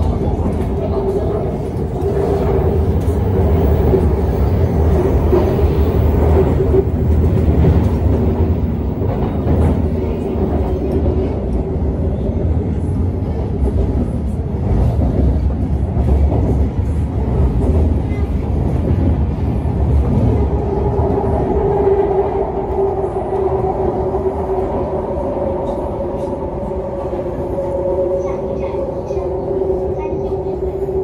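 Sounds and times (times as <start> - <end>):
steady train whine: 0.0 - 31.0
train running gear rumble: 0.0 - 31.0.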